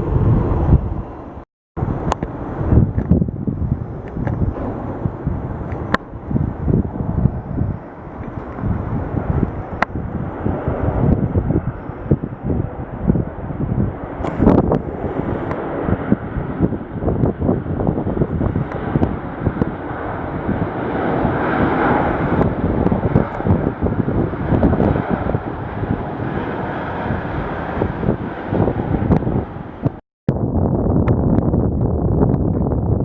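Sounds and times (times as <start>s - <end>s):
steady rumble: 0.0s - 33.0s
wind buffeting microphone: 0.0s - 33.0s.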